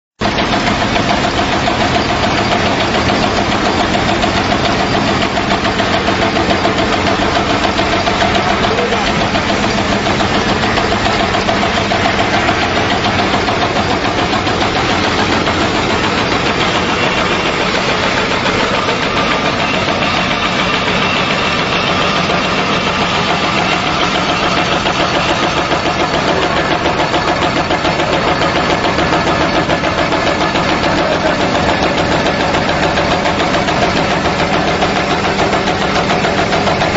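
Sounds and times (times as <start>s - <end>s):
cutting machine blade chopping: 0.2s - 36.9s.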